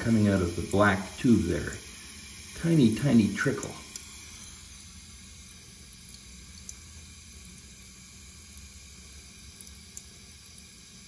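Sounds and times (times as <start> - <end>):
toilet tank refilling hiss: 0.0 - 11.0.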